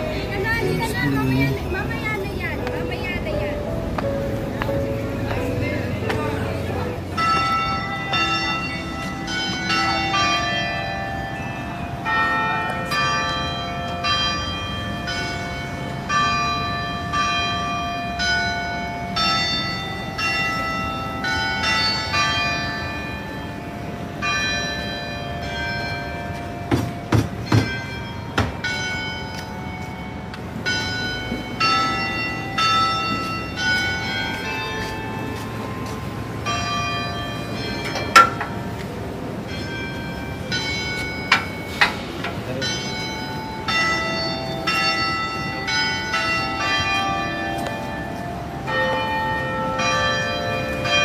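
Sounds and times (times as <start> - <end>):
church bells ringing: 0.0 - 51.0.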